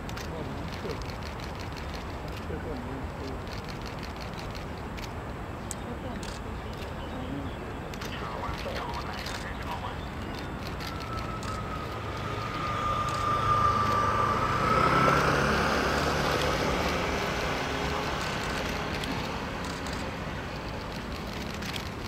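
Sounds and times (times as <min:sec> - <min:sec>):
aircraft engine whine: 0:00.0 - 0:05.2, 0:06.2 - 0:22.0.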